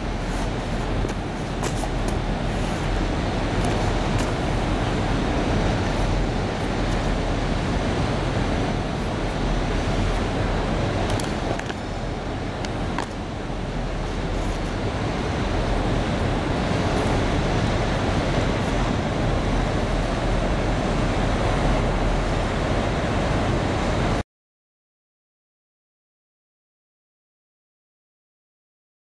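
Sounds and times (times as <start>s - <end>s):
low rumble of road traffic: 0.0s - 24.2s.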